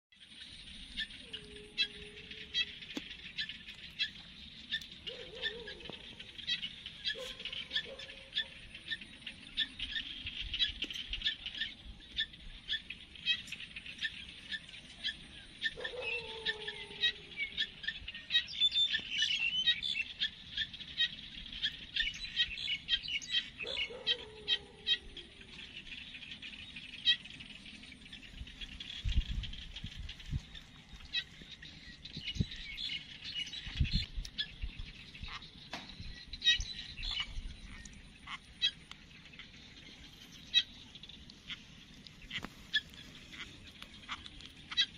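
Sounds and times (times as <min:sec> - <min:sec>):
small birds chirping: 0:00.2 - 0:44.9.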